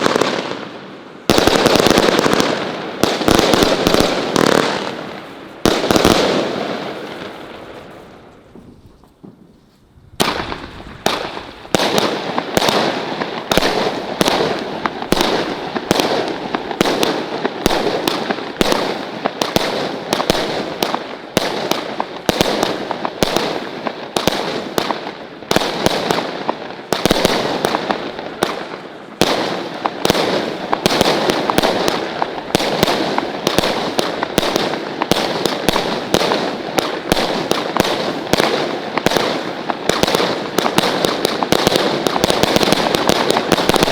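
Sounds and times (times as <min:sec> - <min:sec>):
fireworks banging and crackling: 0:00.0 - 0:43.9.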